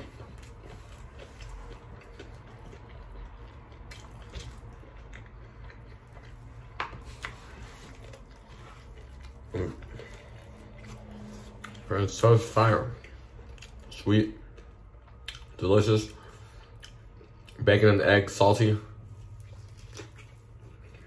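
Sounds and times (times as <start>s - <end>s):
man chewing: 0.0s - 17.7s, 18.9s - 21.0s
low room hum: 0.0s - 21.0s.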